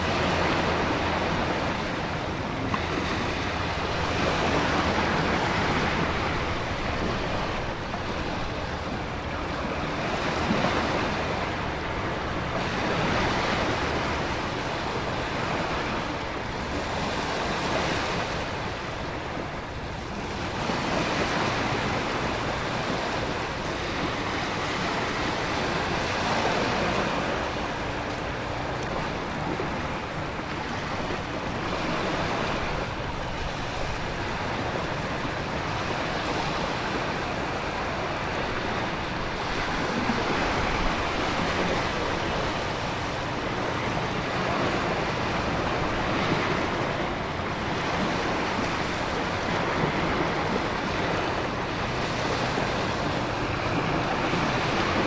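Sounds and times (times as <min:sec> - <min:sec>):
heavy ocean surf breaking: 0:00.0 - 0:55.0.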